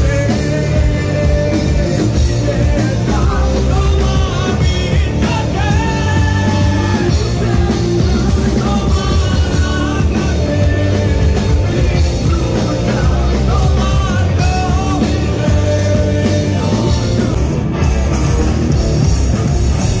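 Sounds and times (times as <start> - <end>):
man singing into a microphone: 0.0 - 17.6
amplified guitar: 0.0 - 20.0
drums: 0.0 - 20.0
rock band playing live: 0.0 - 20.0.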